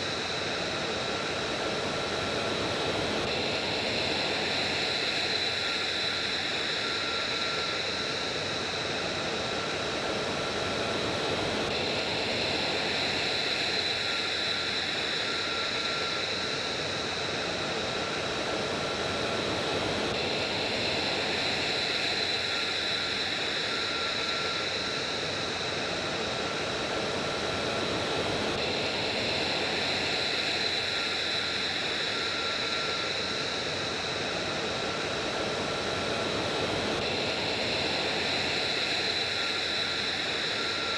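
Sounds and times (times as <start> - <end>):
high turbine whine: 0.0 - 40.9
jet engine rush: 0.0 - 40.9.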